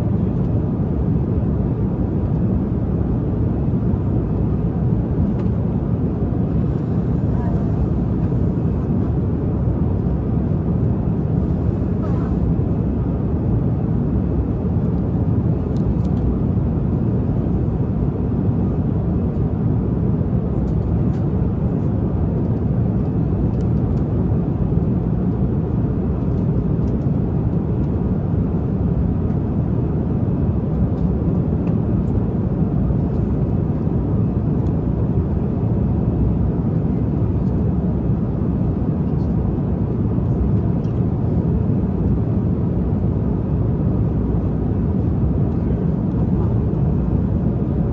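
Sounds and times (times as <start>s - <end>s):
airliner cabin roar: 0.0s - 47.9s.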